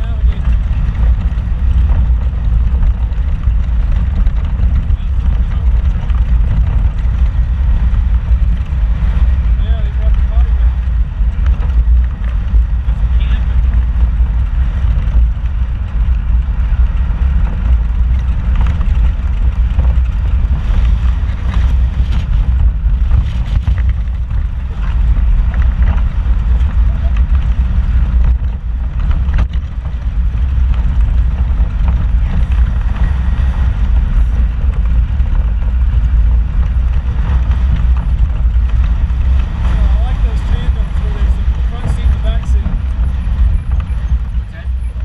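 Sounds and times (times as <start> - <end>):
engine and tyre rumble: 0.0 - 45.0.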